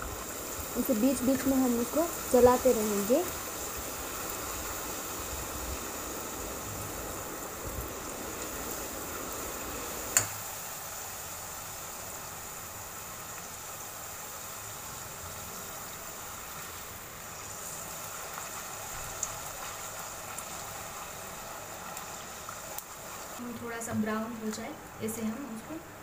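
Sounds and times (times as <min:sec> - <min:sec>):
dough sizzling in hot oil: 0:00.0 - 0:26.0.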